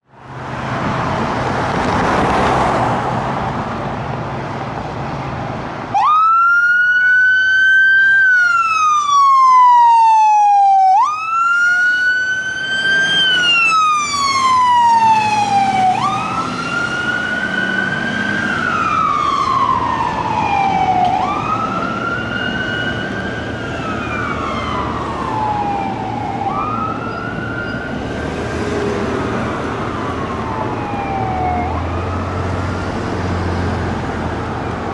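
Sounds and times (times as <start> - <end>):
traffic: 0.0 - 34.9
fire engine siren wailing: 5.9 - 34.9.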